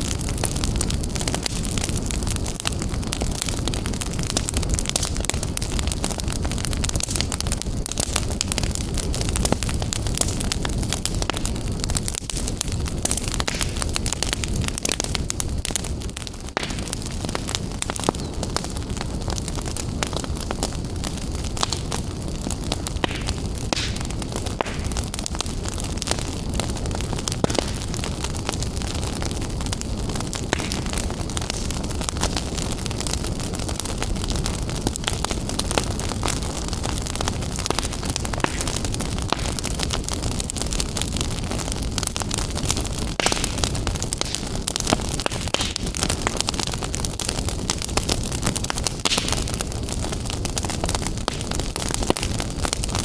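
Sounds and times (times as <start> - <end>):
fire crackling and popping: 0.0 - 53.0
low rush of burning: 0.0 - 53.0.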